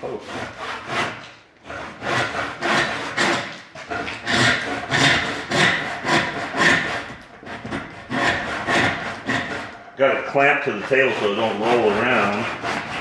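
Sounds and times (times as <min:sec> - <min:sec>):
hand saw cutting log: 0:00.0 - 0:13.0.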